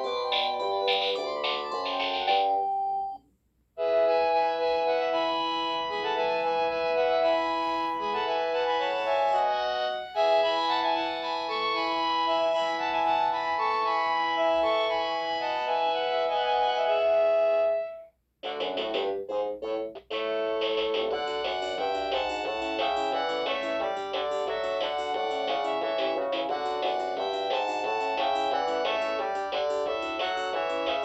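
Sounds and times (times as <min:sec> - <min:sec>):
keyboard music with organ-like chords: 0:00.0 - 0:03.2, 0:03.8 - 0:31.0.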